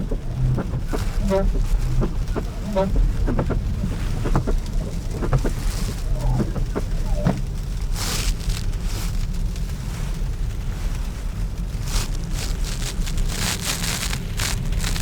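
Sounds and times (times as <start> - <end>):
tyre rumble in car cabin: 0.0 - 15.0.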